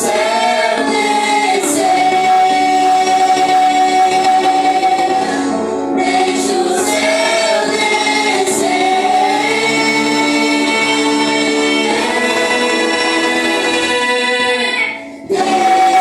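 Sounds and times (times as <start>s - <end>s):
choir singing worship song: 0.0s - 16.0s.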